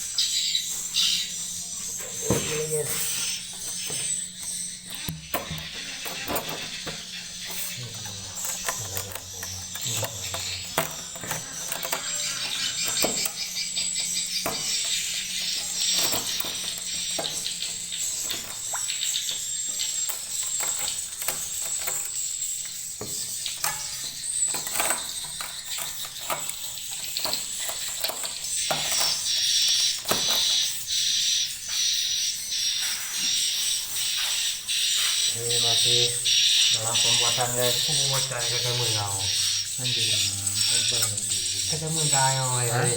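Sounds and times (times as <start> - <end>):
swiftlets twittering: 0.0 - 42.9.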